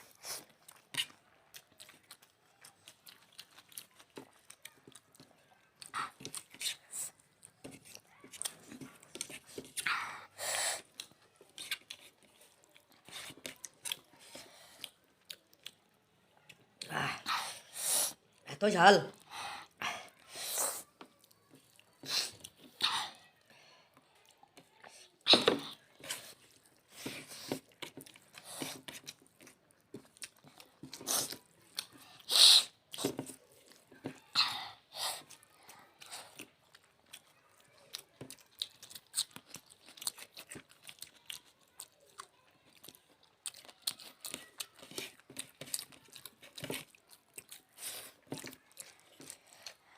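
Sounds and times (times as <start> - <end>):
chewing and wet mouth sounds: 0.0 - 49.9.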